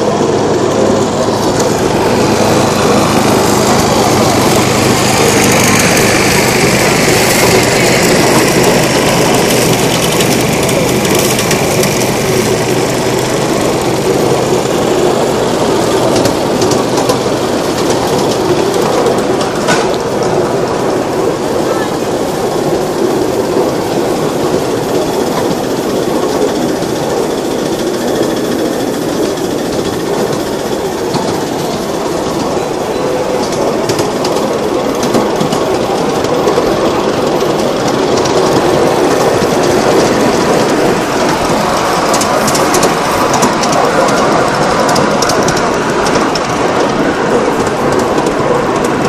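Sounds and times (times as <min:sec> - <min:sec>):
sharp track clicks: 0:00.0 - 0:49.0
train wheels rumbling on rails: 0:00.0 - 0:49.0.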